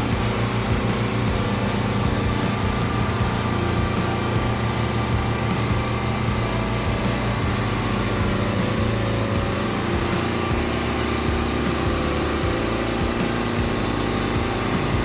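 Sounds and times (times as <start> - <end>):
skid steer engine running: 0.0 - 15.0.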